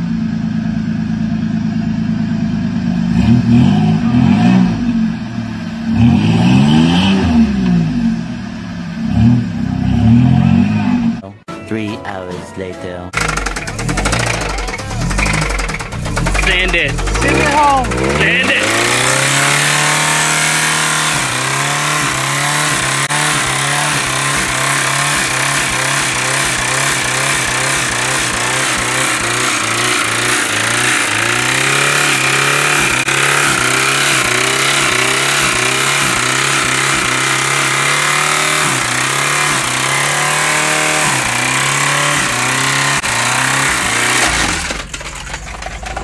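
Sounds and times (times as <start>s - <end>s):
vehicle engine revving: 1.2s - 11.2s, 13.2s - 46.0s.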